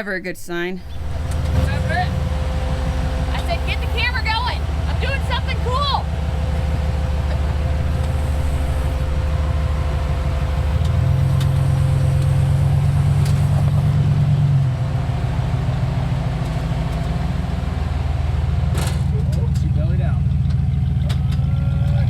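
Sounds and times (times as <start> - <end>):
off-road vehicle engine running: 0.8 - 22.0.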